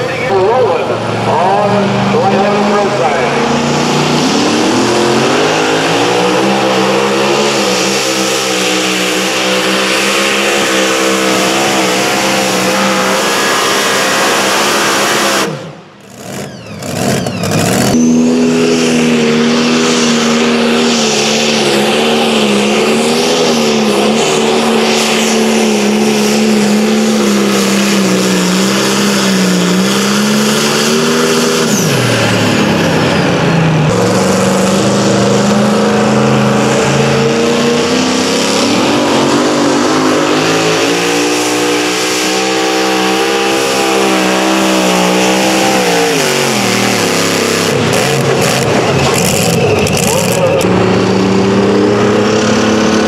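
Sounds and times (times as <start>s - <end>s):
engine revving under heavy load: 0.0s - 53.0s.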